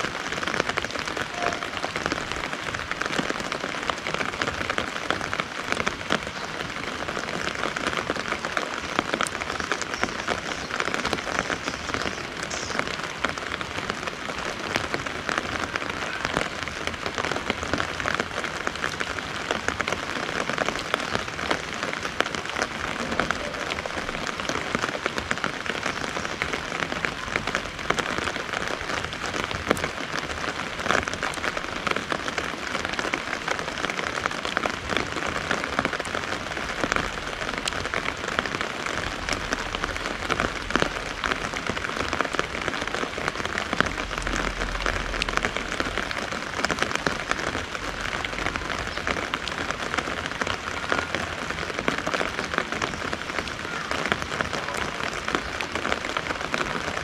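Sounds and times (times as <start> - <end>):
rain drumming on an umbrella: 0.0 - 57.0
rain on wet ground: 0.0 - 57.0.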